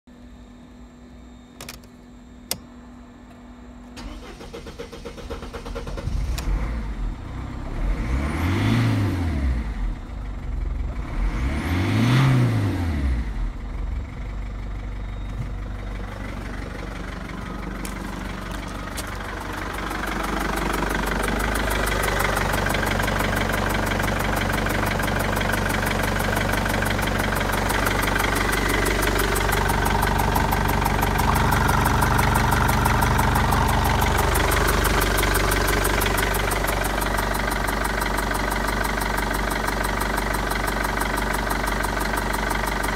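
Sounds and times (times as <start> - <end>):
diesel engine starting and idling: 3.8 - 42.9.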